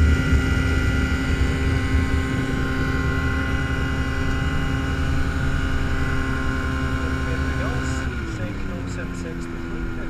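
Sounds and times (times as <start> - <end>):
aircraft engine droning: 0.0 - 10.0
low wind buffet: 0.0 - 10.0.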